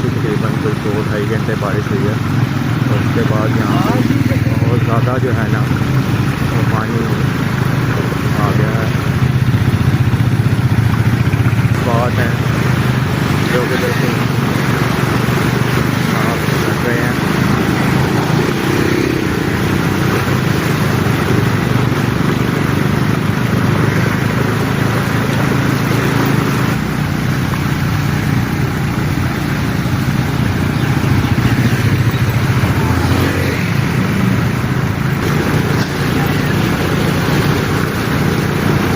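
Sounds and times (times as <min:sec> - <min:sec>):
noisy rush: 0:00.0 - 0:38.9
vehicle engine running: 0:00.0 - 0:38.9.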